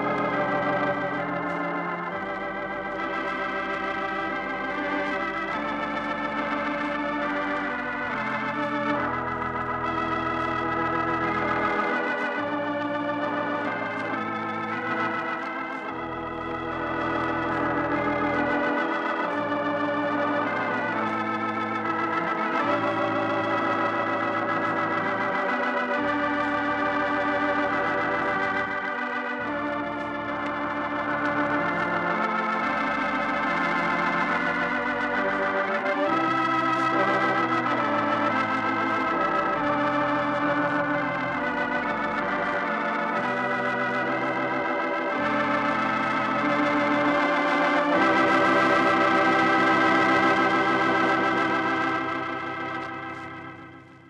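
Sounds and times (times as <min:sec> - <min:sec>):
organ chords: 0:00.0 - 0:54.0.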